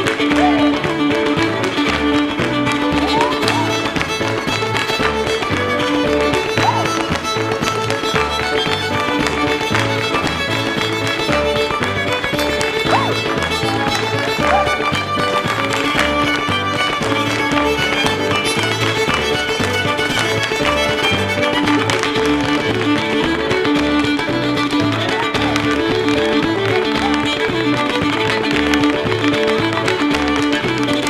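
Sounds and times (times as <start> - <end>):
fiddle dance tune: 0.0 - 31.0.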